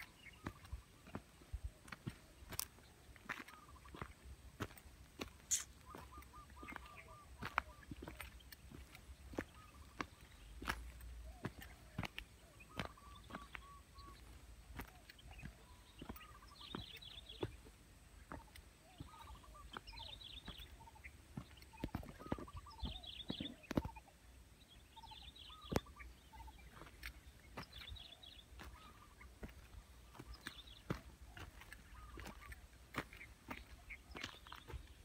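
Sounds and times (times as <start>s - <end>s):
birds chattering: 0.0s - 35.0s.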